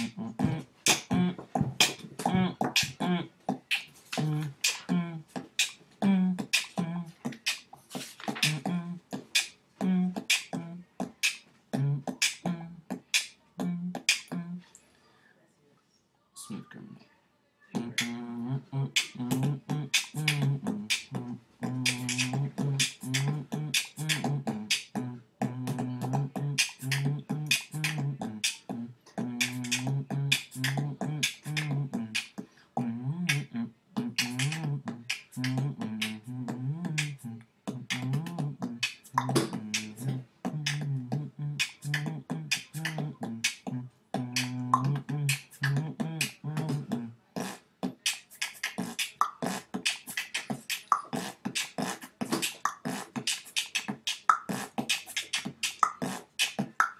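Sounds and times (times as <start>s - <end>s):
beatboxing drum sounds: 0.0s - 14.6s, 17.8s - 56.9s.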